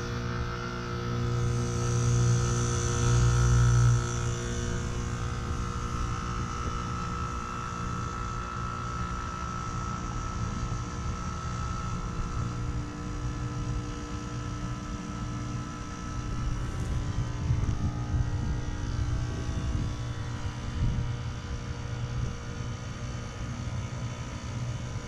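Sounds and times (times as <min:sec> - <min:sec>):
heat pump unit humming: 0:00.0 - 0:25.0.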